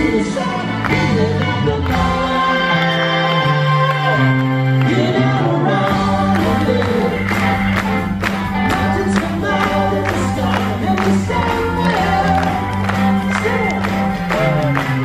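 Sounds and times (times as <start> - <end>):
person singing: 0.0 - 15.0
rock band playing live: 0.0 - 15.0.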